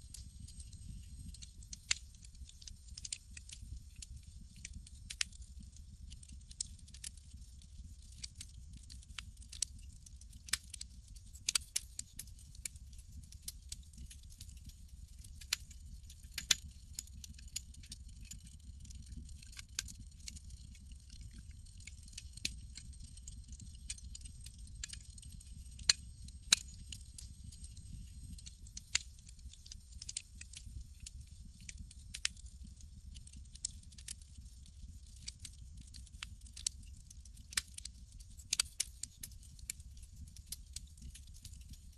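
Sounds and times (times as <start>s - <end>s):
sharp pops and snaps: 0.1s - 41.9s
campfire crackling: 0.2s - 5.3s, 6.0s - 12.8s, 16.3s - 32.4s, 33.2s - 39.8s.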